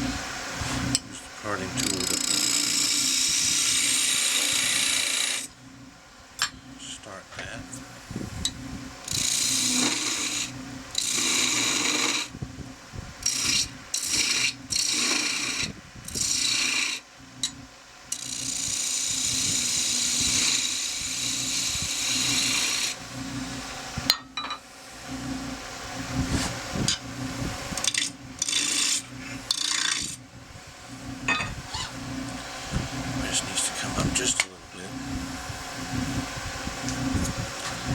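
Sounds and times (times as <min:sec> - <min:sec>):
parting tool cutting wood: 0:00.0 - 0:05.6, 0:08.5 - 0:12.3, 0:13.2 - 0:24.0, 0:24.9 - 0:30.2, 0:30.8 - 0:37.9
lathe humming: 0:00.0 - 0:37.9.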